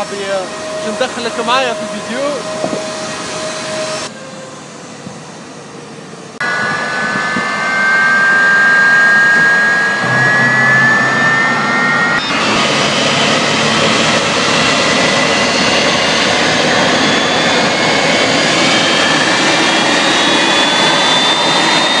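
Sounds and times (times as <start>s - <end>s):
jet engine rush and whine: 0.0s - 22.0s.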